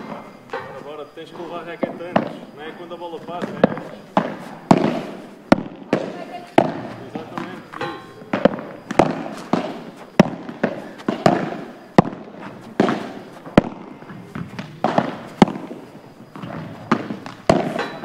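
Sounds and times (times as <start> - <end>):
rackets hitting ball: 0.0 - 18.0
ball bouncing: 3.2 - 18.0.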